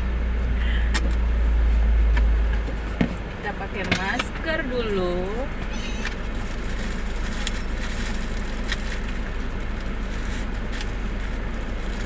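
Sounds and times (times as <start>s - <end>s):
car engine idling hum: 0.0s - 12.0s.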